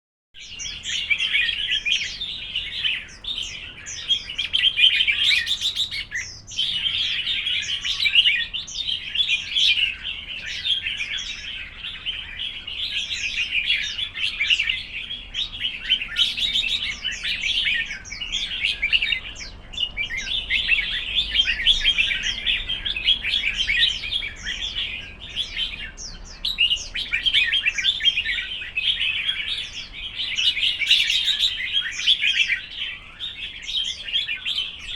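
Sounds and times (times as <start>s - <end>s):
bird chirping and warbling: 0.4s - 34.9s.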